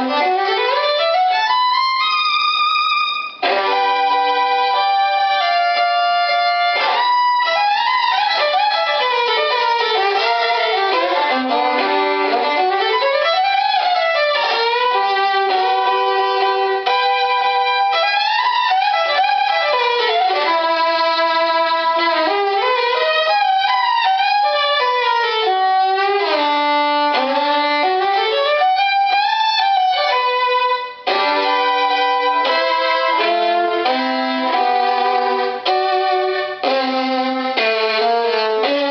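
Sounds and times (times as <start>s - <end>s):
solo violin playing: 0.0s - 38.9s.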